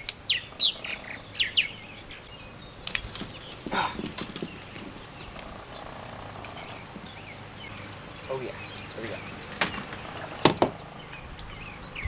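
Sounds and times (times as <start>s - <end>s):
falling bird chirps: 0.0s - 12.0s.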